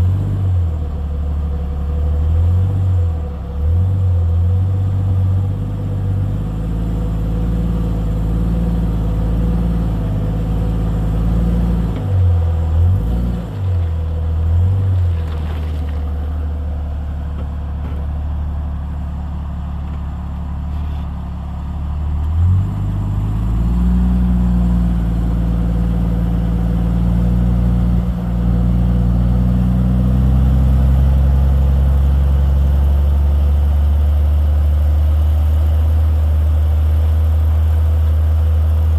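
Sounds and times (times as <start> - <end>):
engine running at low revs: 0.0 - 38.9.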